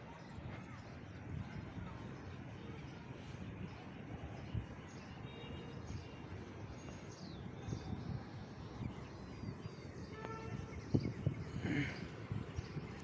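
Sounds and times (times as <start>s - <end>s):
wind buffeting microphone: 0.0s - 5.1s, 5.8s - 13.0s.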